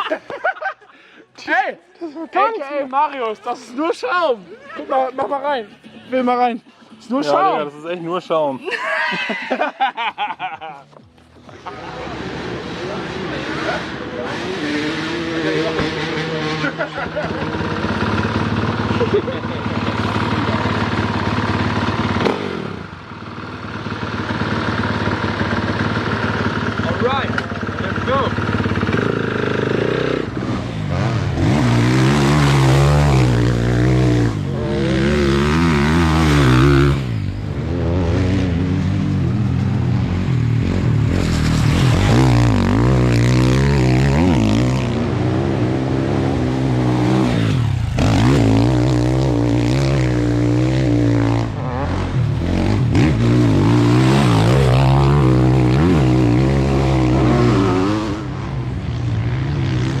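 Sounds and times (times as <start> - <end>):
motocross bike engine revving: 11.7 - 60.0.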